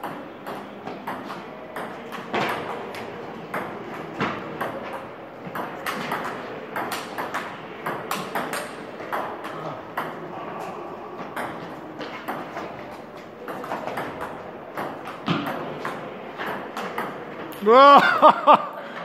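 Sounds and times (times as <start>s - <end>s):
table tennis ball rally: 0.0s - 10.6s, 11.2s - 18.0s.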